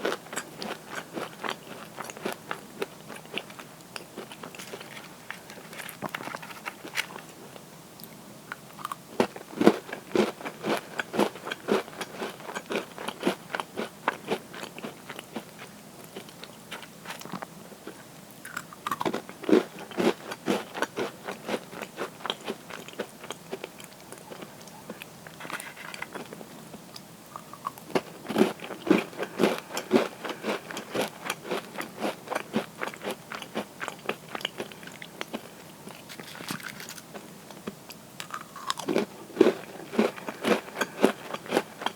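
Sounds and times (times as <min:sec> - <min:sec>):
cookies crunching being chewed: 0:00.0 - 0:07.6, 0:08.5 - 0:41.9.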